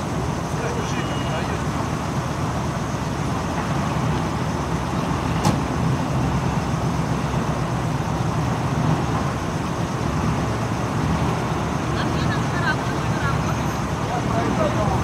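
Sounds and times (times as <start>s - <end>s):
military vehicle engines running: 0.0s - 15.0s.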